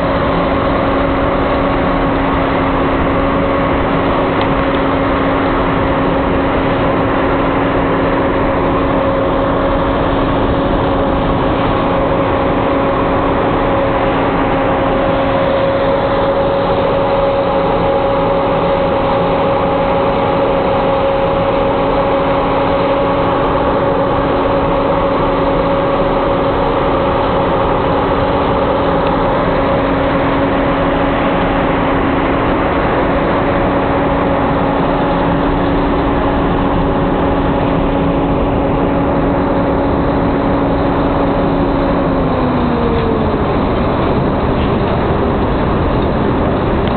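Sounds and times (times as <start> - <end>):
combine harvester droning: 0.0 - 46.9.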